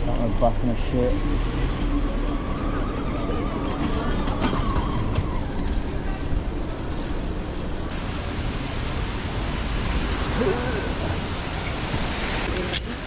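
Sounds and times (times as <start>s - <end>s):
street traffic on wet roads: 0.0s - 13.0s
wind rumbling on microphone: 1.1s - 13.0s.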